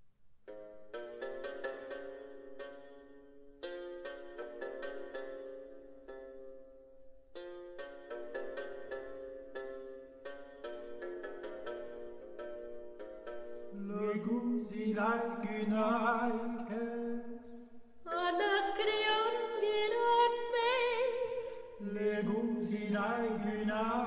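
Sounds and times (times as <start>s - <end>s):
plucked string notes: 0.4s - 24.0s.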